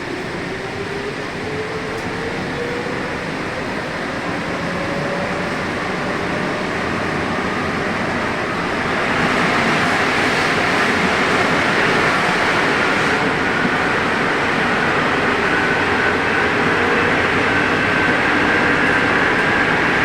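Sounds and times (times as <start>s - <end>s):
metro train rushing noise: 0.0s - 20.0s.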